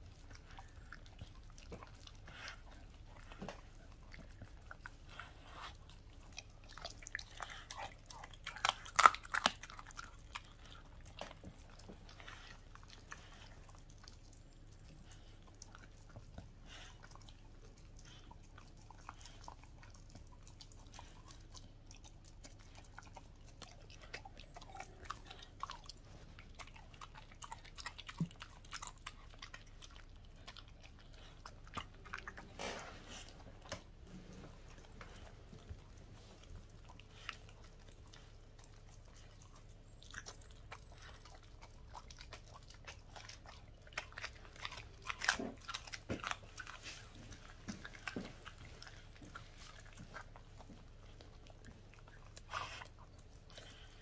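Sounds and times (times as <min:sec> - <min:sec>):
dog chewing raw chicken: 0:00.0 - 0:54.0.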